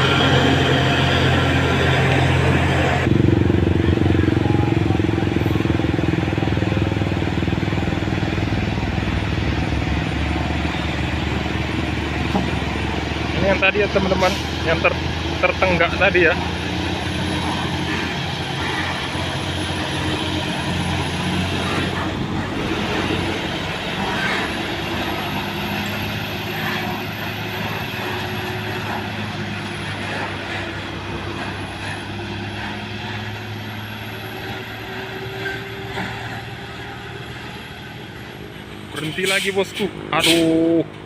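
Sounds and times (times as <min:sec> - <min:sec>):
diesel truck engine labouring: 0:00.0 - 0:41.0.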